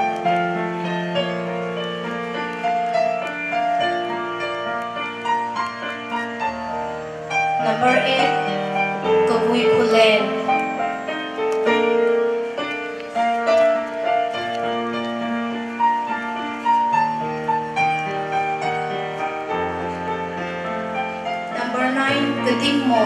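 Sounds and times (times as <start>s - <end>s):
slow keyboard melody: 0.0s - 23.0s.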